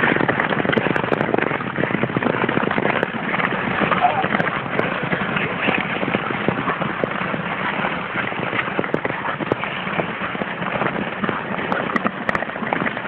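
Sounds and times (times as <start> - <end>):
skate blades scraping on ice: 0.0 - 13.0.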